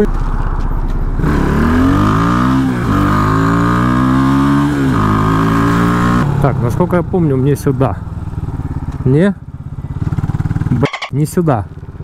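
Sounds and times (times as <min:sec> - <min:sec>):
motorcycle engine accelerating: 0:01.1 - 0:12.0.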